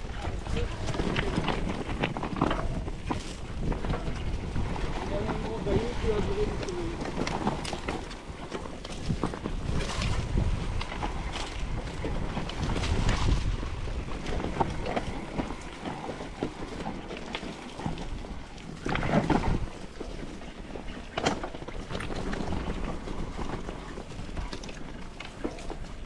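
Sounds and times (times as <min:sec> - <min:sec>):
mountain bike rattling: 0:00.0 - 0:26.0
wind buffeting microphone: 0:00.0 - 0:26.0.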